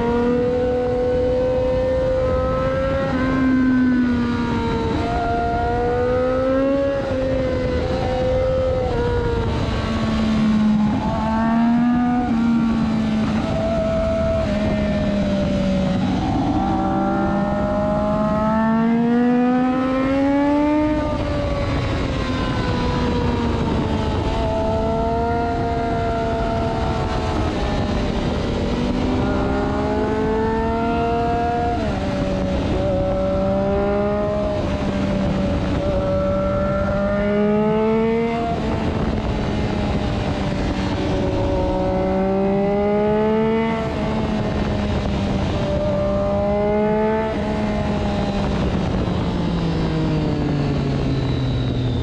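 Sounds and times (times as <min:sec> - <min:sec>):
motorcycle engine: 0:00.0 - 0:52.0
wind rush: 0:00.0 - 0:52.0.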